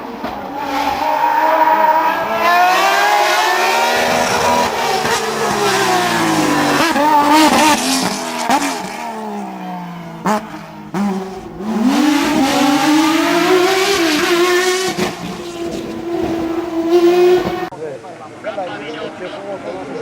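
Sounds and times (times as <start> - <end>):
racing car engine: 0.0 - 20.0.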